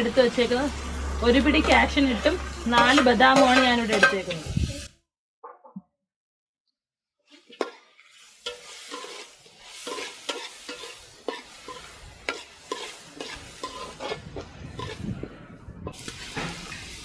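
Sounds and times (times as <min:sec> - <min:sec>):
frying sizzle: 0:00.0 - 0:05.0, 0:07.3 - 0:17.0
metal spatula scraping a pan: 0:00.4 - 0:04.9, 0:07.2 - 0:17.0.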